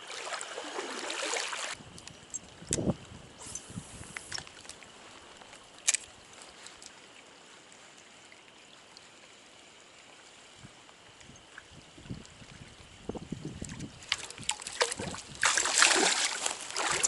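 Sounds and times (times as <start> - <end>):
stream water flowing: 0.0 - 2.7, 4.3 - 12.8, 13.6 - 17.0.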